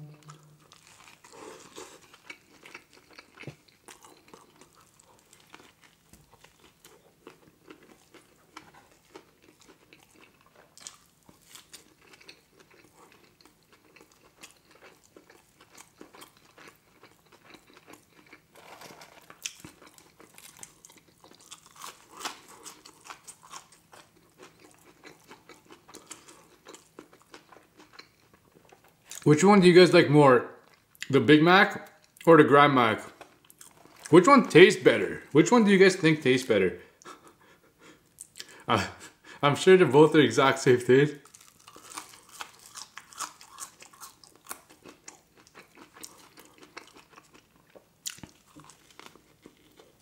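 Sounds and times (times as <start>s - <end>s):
chewing burger: 0.2s - 29.3s, 33.0s - 34.3s, 37.0s - 39.4s, 41.2s - 50.0s.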